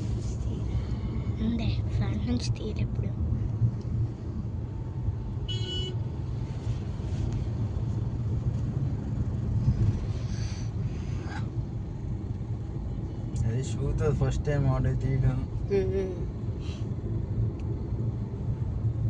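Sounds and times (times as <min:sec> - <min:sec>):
road vehicle rumble: 0:00.0 - 0:19.0.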